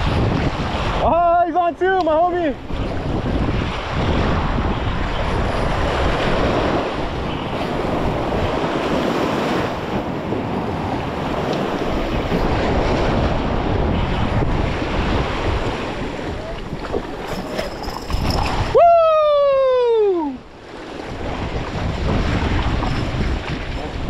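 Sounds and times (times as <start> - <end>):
surf washing against rocks: 0.0 - 24.0
wind buffeting microphone: 0.0 - 24.0.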